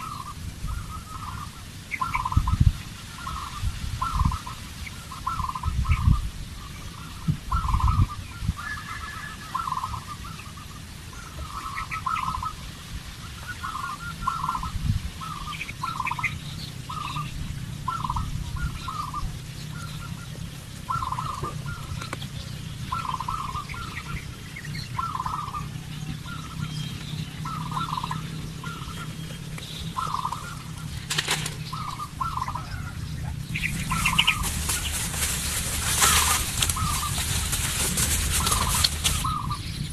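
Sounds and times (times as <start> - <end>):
birds calling: 0.0 - 39.9
steady low rumble: 0.0 - 39.9.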